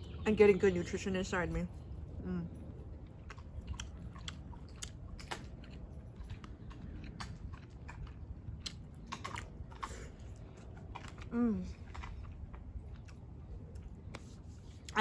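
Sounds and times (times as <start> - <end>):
chewing and biting: 1.7 - 15.0.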